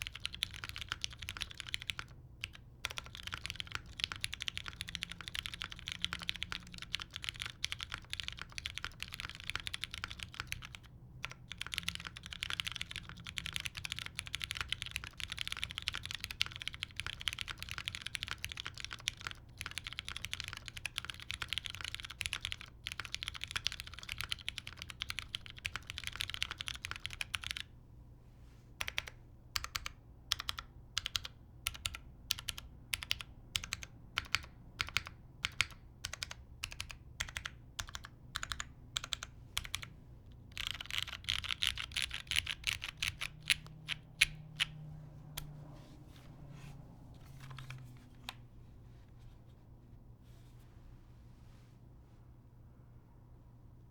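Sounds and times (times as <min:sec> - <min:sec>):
mechanical keyboard typing: 0:00.0 - 0:27.7, 0:28.8 - 0:44.8, 0:47.2 - 0:48.4.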